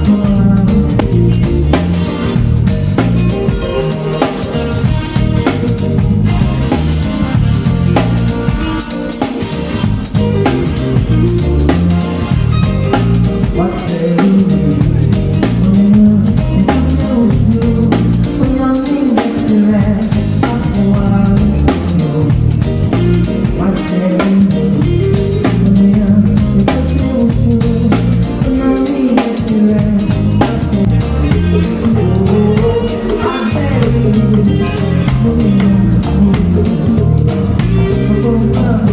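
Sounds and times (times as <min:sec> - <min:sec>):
live band playing: 0:00.0 - 0:38.9
person singing: 0:00.0 - 0:38.9.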